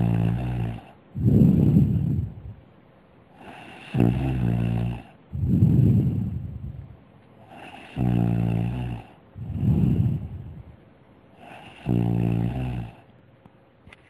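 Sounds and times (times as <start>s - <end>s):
person snoring: 0.0s - 2.6s, 3.4s - 10.8s, 11.4s - 13.1s.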